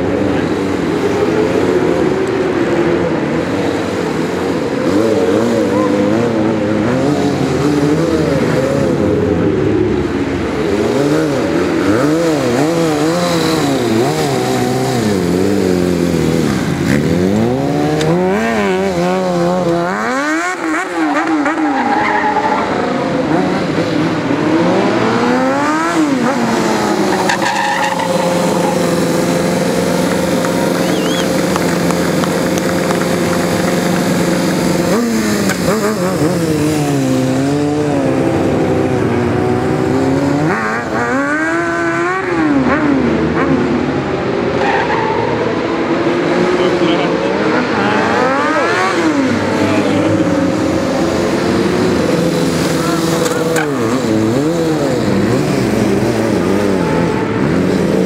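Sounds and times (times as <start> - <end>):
motorcycle engine revving: 0.0 - 44.6, 45.2 - 58.0.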